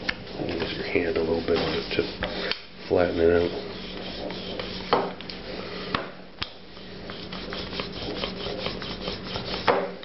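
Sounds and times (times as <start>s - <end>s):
rolling pin rolling over dough: 0.0s - 5.6s, 6.8s - 10.0s.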